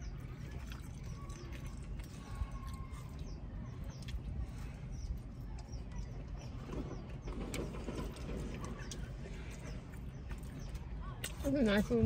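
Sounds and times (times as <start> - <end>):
faint bird chirps: 0.0 - 11.4.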